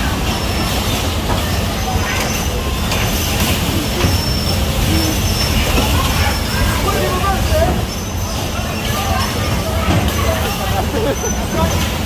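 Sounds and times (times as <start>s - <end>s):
bumper cars rumbling and rattling: 0.0s - 12.0s.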